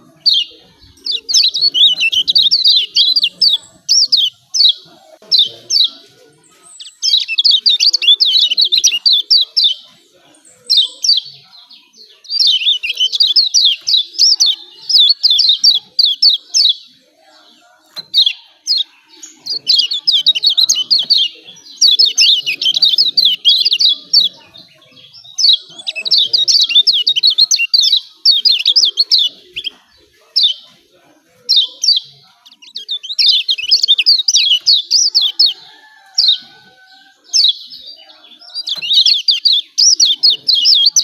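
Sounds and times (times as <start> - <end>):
bird chattering call: 0.0 - 16.9, 18.0 - 29.7, 31.5 - 41.0.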